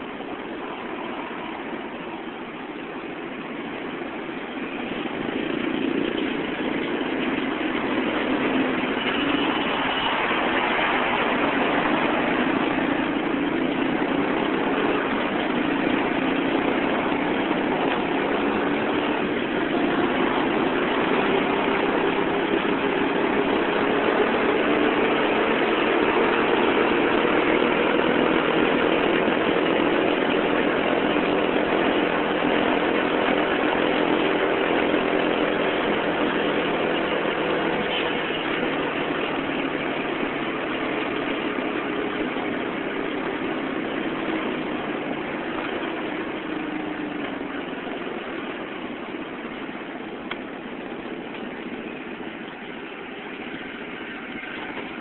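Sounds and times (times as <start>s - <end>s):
car and motorcycle engines: 0.0s - 55.0s
engine hum rising in pitch: 0.0s - 55.0s.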